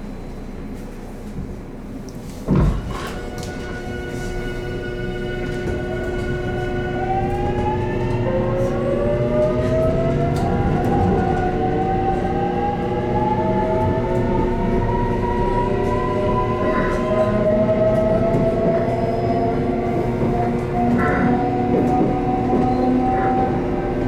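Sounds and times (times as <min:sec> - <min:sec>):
train running gear rumble: 0:00.0 - 0:24.0
electric train motors whining: 0:03.0 - 0:24.0.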